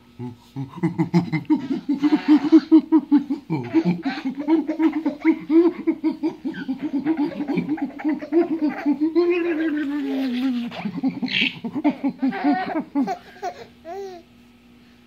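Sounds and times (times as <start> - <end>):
baby laughing: 0.7 - 14.2.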